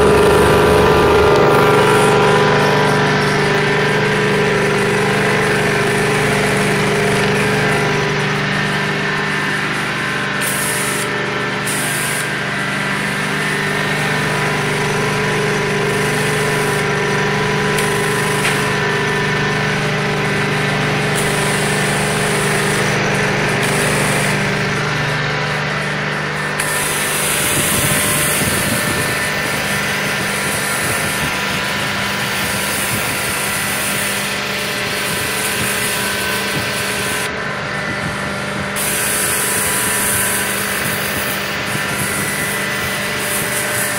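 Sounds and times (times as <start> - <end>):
loud hiss: 0.0 - 37.3, 38.1 - 43.9
engine running: 0.0 - 43.9.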